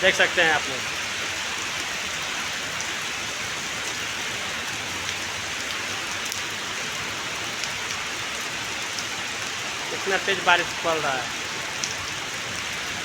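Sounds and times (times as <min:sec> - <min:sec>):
heavy rain on hard surfaces: 0:00.0 - 0:13.0.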